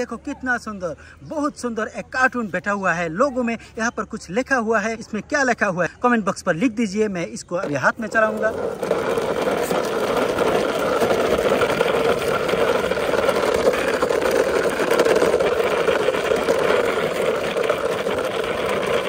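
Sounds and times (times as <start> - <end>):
toy car wheels rolling on concrete: 0.0 - 19.0.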